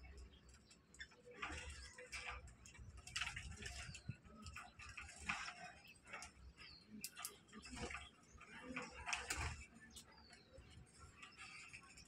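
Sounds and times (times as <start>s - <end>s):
beaks pecking ticks and clicks: 0.0s - 12.0s.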